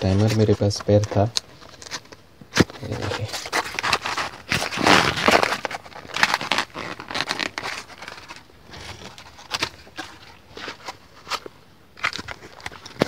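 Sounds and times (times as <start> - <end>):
phone handling rustles: 0.0 - 13.0.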